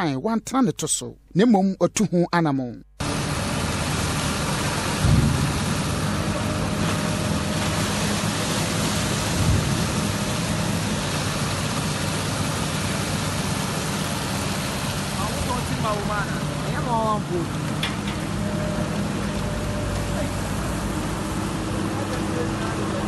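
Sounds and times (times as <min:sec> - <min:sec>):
excavator diesel engine running: 0:03.0 - 0:23.0.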